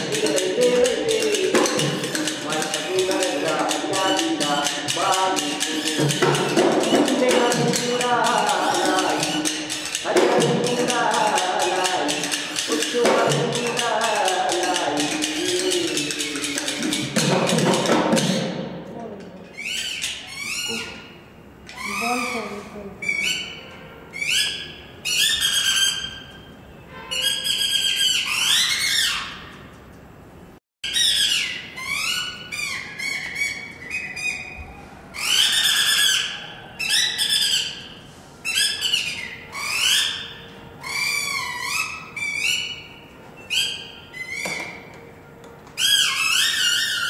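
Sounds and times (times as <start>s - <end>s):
shrill squeaking puppet voices: 0.0s - 18.5s, 19.4s - 26.5s, 27.1s - 29.5s, 30.8s - 44.9s, 45.8s - 47.0s.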